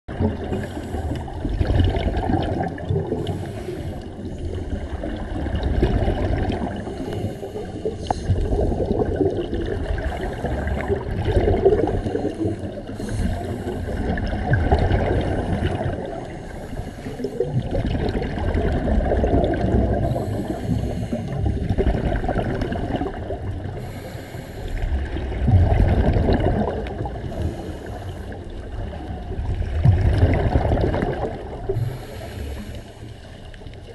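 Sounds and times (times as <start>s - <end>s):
regulator exhaust bubbles underwater: 0.1s - 33.9s.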